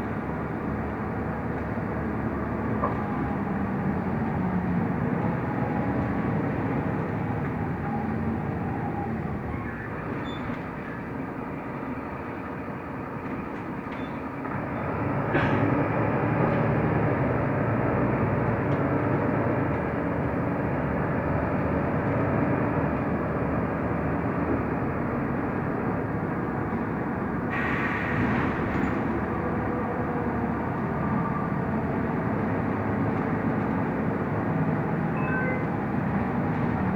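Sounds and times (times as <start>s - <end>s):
bus engine and road noise: 0.0s - 36.9s.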